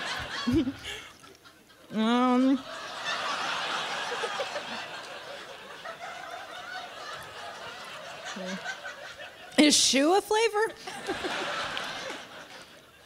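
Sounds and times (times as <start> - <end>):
audience laughing: 0.0 - 10.1, 10.8 - 13.0.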